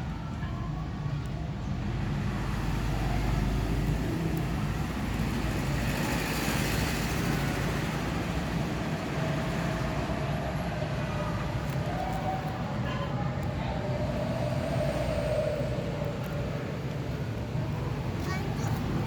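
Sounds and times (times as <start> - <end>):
rumbling background noise: 0.0 - 19.0.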